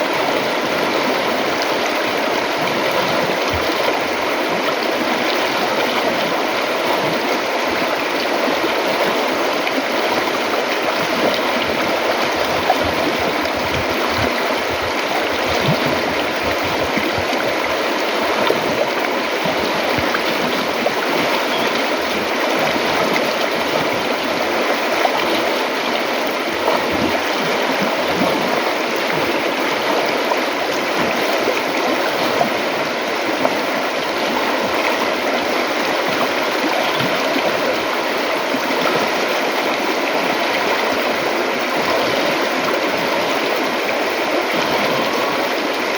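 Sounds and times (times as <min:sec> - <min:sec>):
river water flowing over rocks: 0:00.0 - 0:45.9.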